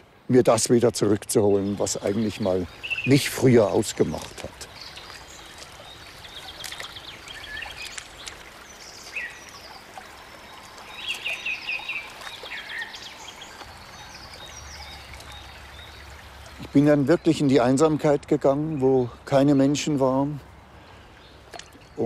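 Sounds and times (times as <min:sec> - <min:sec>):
birds chirping: 0:00.0 - 0:22.0
forest stream rushing: 0:00.0 - 0:22.0.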